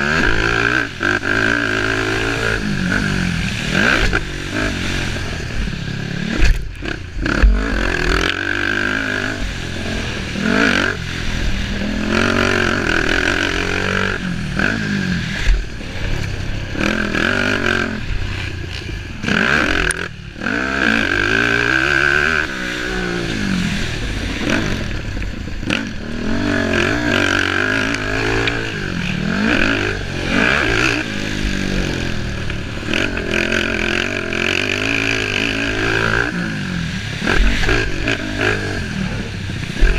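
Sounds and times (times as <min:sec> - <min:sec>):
racing engines revving: 0:00.0 - 0:39.9.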